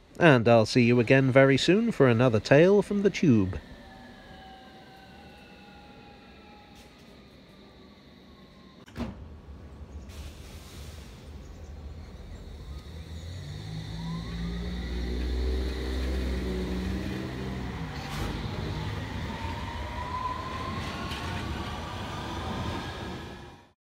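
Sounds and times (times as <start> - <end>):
train motors whining: 0.0 - 23.8
train rumble: 0.0 - 23.8.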